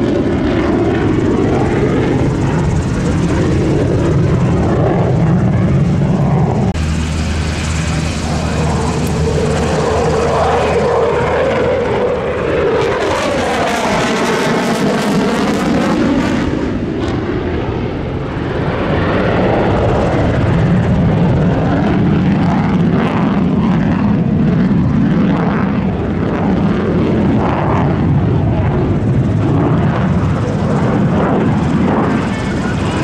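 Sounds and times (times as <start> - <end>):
fighter jet engines roaring: 0.0 - 33.0.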